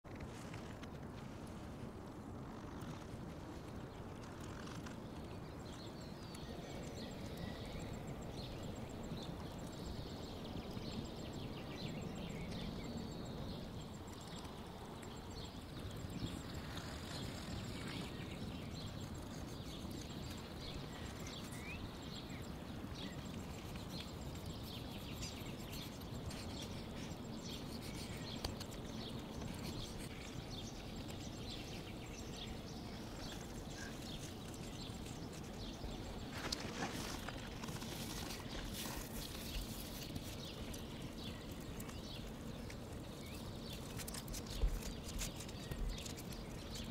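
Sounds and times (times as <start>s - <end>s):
steady rush of background noise: 0.1s - 46.9s
faint bird chirps: 2.4s - 46.9s.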